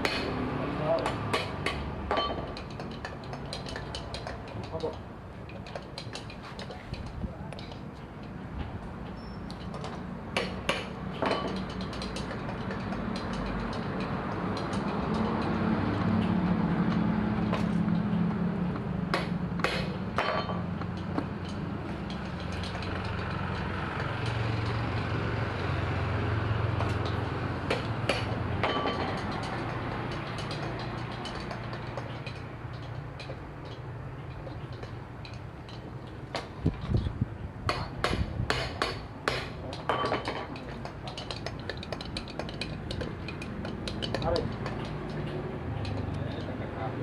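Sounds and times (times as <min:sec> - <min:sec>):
metallic clinks and knocks: 0:00.9 - 0:08.4, 0:09.0 - 0:18.2, 0:19.1 - 0:37.0, 0:37.7 - 0:46.7.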